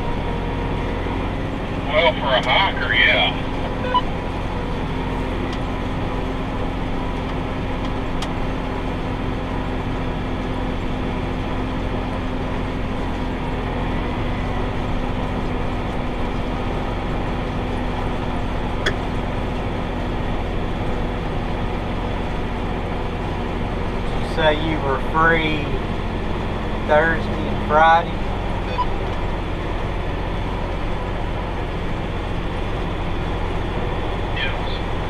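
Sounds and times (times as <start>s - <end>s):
tractor engine drone: 0.0s - 35.0s.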